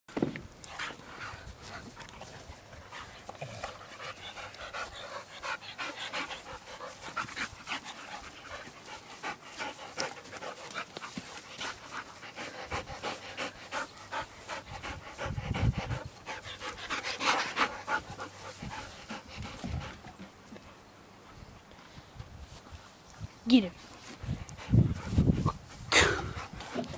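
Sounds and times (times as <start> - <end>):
dogs panting: 0.5 - 26.9.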